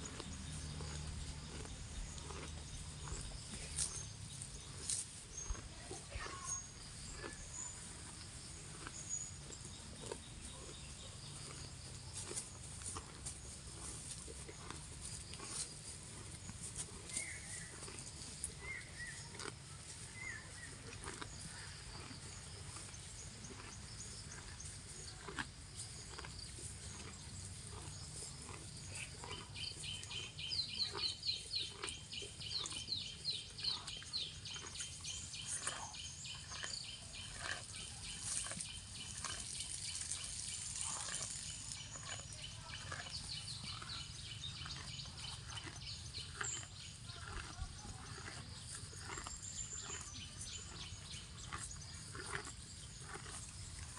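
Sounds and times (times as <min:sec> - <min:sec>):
cow tearing and chewing grass: 0:00.0 - 0:53.9
low outdoor rumble: 0:00.2 - 0:53.9.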